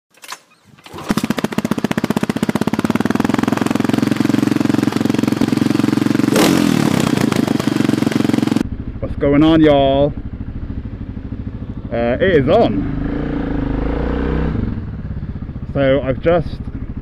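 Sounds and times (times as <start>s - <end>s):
motorcycle engine idling: 1.1s - 13.8s, 14.5s - 17.0s.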